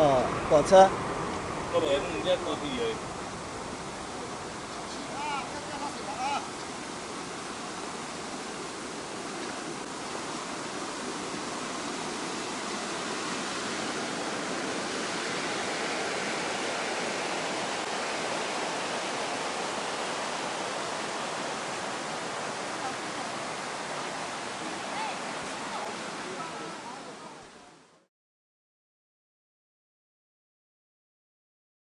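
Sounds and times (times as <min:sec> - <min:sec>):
stream water flowing: 0:00.0 - 0:28.1.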